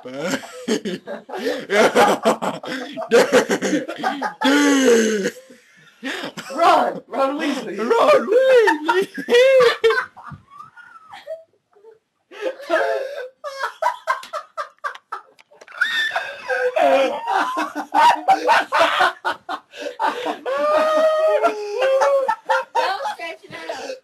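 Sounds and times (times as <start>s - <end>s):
human laughter in bursts: 0.0s - 5.3s, 8.3s - 11.4s, 12.4s - 24.0s.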